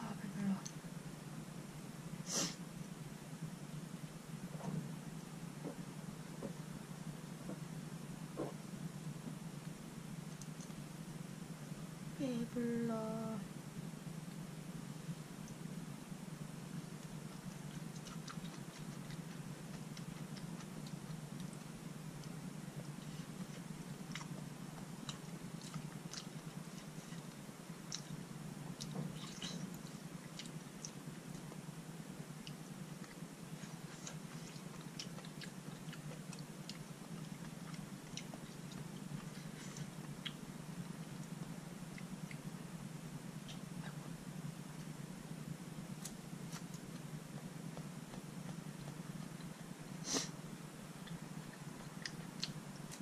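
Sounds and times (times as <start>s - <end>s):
steady low hum: 0.0s - 53.0s
soft chewing: 2.3s - 12.0s, 13.8s - 53.0s.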